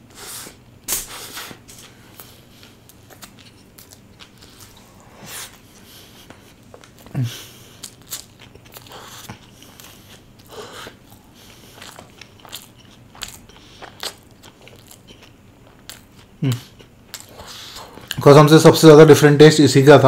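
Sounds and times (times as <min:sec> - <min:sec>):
biting and chewing food: 0:00.9 - 0:18.2.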